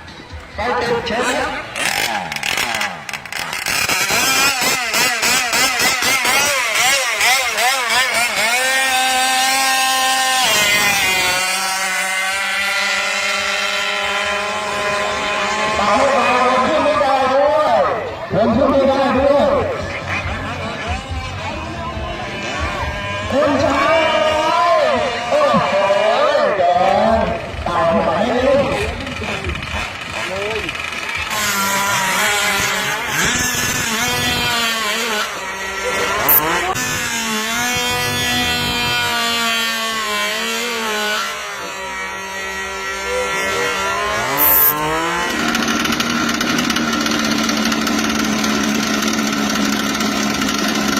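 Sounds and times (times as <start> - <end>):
small two-stroke engine buzzing: 0.0 - 50.9.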